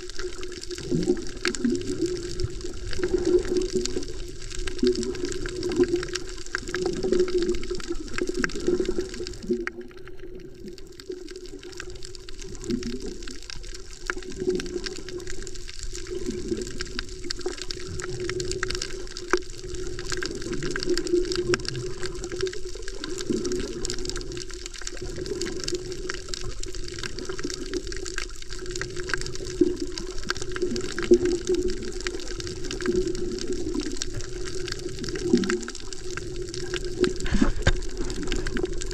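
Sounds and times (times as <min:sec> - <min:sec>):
underwater water rush: 0:00.0 - 0:38.9.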